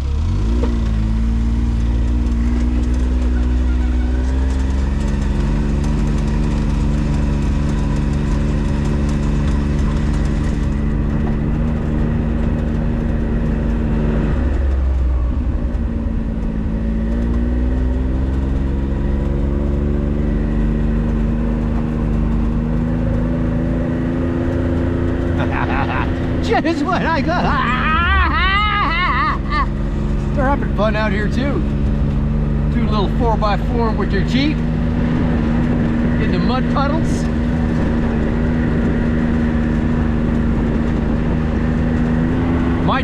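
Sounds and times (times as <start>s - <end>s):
vehicle engine accelerating: 0.0s - 43.0s.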